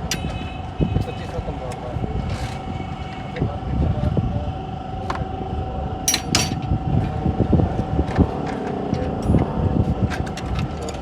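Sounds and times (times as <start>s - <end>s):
engine running unevenly: 0.0s - 11.0s
thin engine whine: 0.0s - 11.0s.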